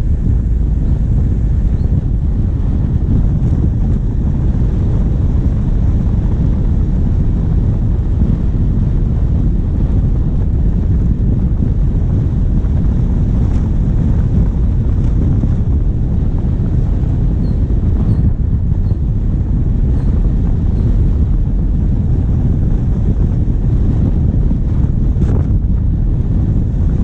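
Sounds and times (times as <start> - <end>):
diesel engine running: 0.0 - 27.0
wind buffeting microphone: 0.0 - 27.0.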